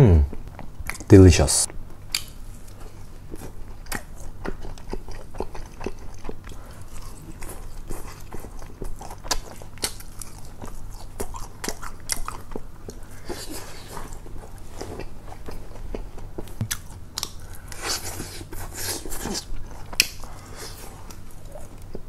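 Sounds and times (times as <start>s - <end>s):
man chewing crunchy food: 0.3s - 1.1s, 1.7s - 22.0s.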